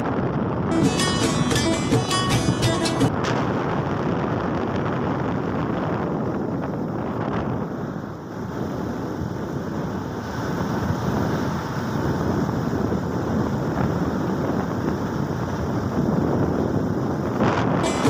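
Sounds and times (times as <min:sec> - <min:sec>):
wind rushing over microphone: 0:00.0 - 0:00.8, 0:03.1 - 0:18.0
road and engine noise: 0:00.0 - 0:18.0.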